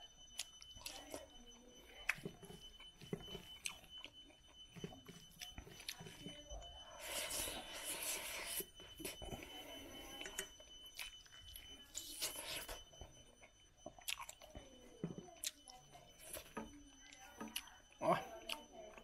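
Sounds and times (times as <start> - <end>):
person chewing with crunches: 0.4 - 16.7, 17.3 - 19.0.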